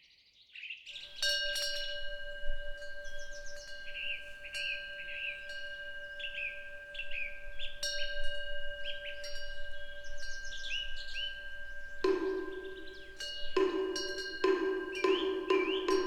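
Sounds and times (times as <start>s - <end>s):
wind bell ringing: 1.0s - 16.0s
small birds chirping: 2.8s - 16.0s.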